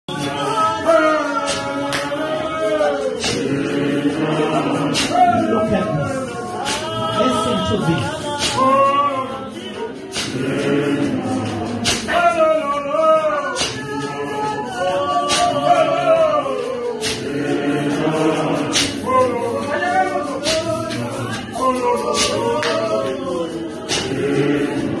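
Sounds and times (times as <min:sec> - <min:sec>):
congregation singing a hymn: 0:00.1 - 0:25.0
sharp percussive beat: 0:00.1 - 0:25.0.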